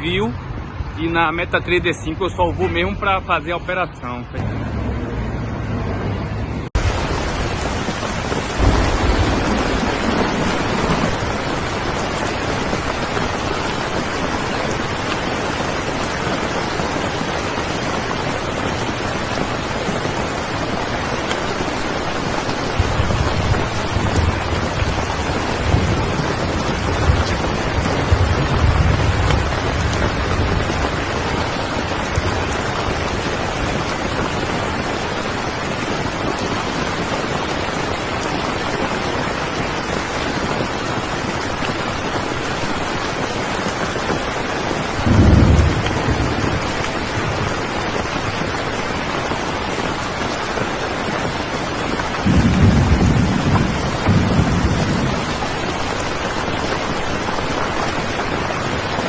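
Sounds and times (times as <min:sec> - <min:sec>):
heavy rain: 0:00.0 - 0:59.0
thunder rumbling: 0:04.4 - 0:59.0.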